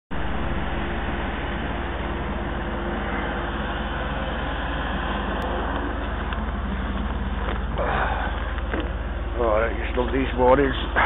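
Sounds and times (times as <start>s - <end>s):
machine engine running: 0.1s - 11.0s.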